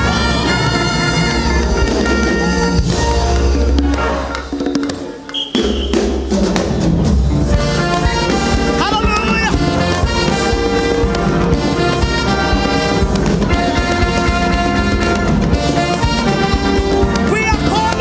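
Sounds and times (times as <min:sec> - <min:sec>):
brass-like lead line: 0:00.0 - 0:04.7, 0:07.5 - 0:18.0
drums: 0:00.0 - 0:18.0
live band playing upbeat music: 0:00.0 - 0:18.0.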